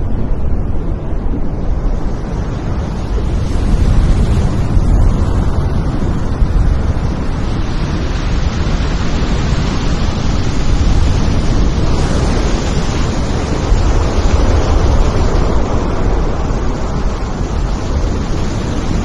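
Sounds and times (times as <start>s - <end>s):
heavy breaking surf: 0.0s - 19.0s
wind buffeting microphone: 0.0s - 19.0s.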